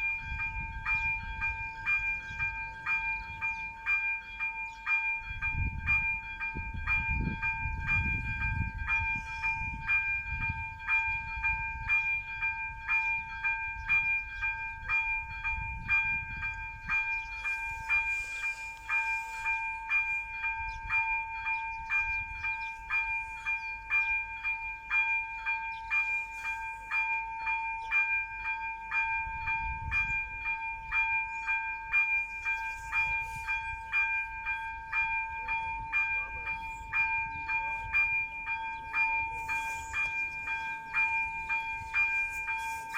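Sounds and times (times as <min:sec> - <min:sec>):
level crossing bell ringing: 0:00.0 - 0:42.9.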